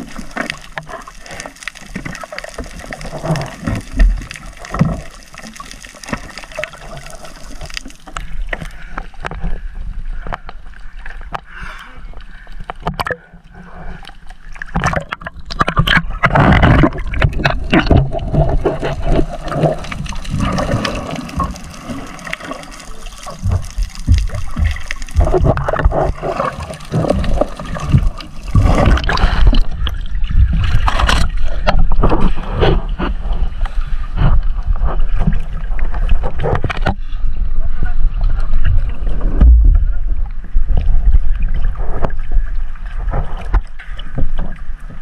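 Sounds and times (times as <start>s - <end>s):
sea water splashing and gurgling: 0.0s - 45.0s
underwater gurgling: 0.0s - 45.0s.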